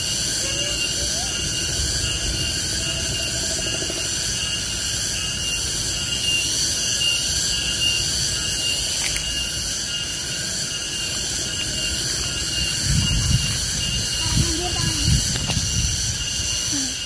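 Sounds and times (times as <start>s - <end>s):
cicadas droning: 0.0s - 17.0s
thin high whine: 0.0s - 17.0s.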